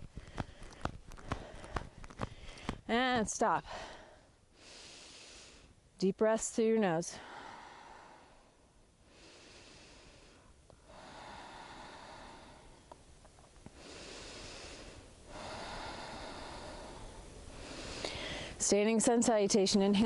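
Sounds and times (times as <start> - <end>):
woman breathing deeply: 0.0 - 2.9, 3.6 - 5.8, 7.1 - 18.6.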